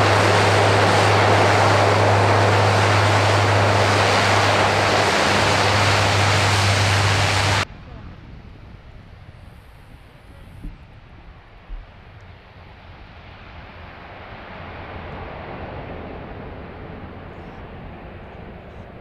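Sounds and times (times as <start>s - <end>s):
turboprop aircraft taking off: 0.0s - 19.0s.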